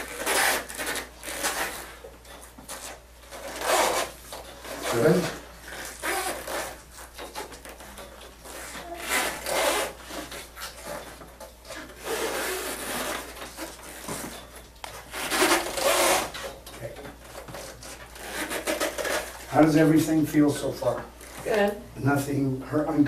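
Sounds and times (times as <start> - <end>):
shoes dragging on floor: 0.0 - 21.7.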